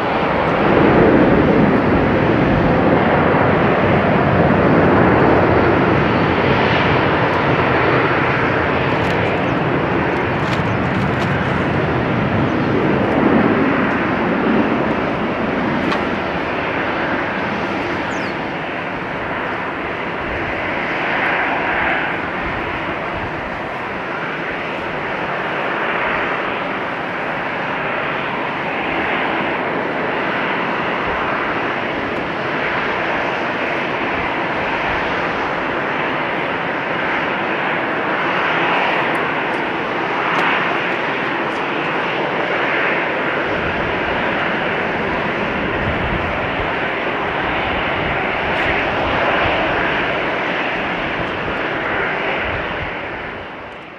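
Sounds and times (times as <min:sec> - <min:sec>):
jet engines rushing at low power: 0:00.0 - 0:53.9.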